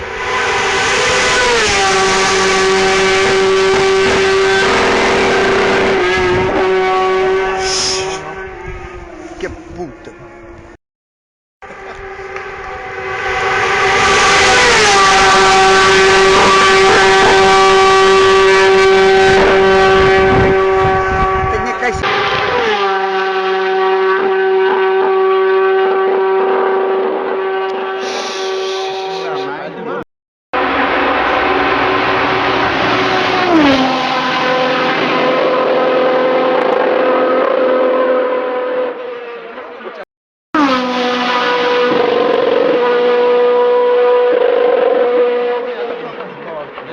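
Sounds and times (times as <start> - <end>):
race car engine at full throttle: 0.0 - 10.8, 11.6 - 30.0, 30.6 - 46.9.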